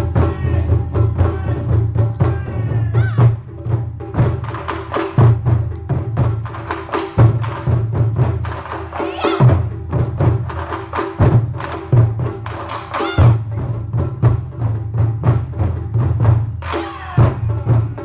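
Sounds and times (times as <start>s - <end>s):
taiko drum strikes: 0.0s - 18.0s.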